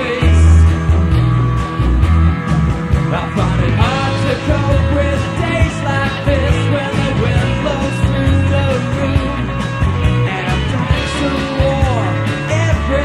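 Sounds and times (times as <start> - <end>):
pitch-bending melody line: 0.0 - 13.0
rock band playing: 0.0 - 13.0.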